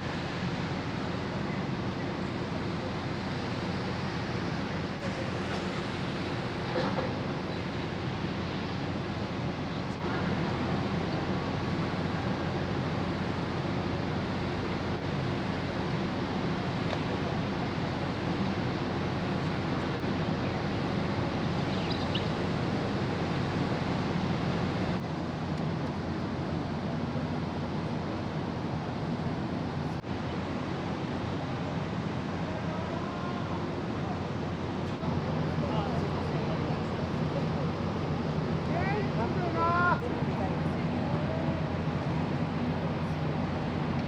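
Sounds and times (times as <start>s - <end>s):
ferry engine drone: 0.0s - 44.0s
rushing wind and water: 0.0s - 44.0s.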